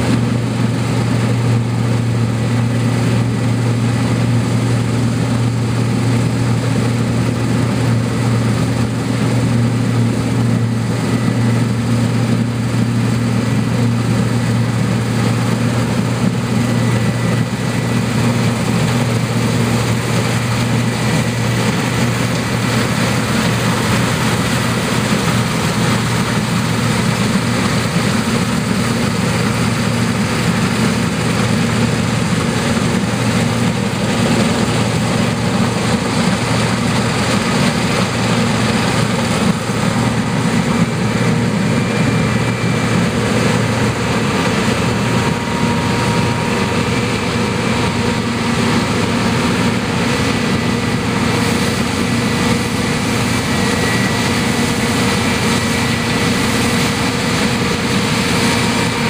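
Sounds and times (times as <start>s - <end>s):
combine harvester running: 0.0s - 59.0s
faint steady whines: 0.0s - 59.0s.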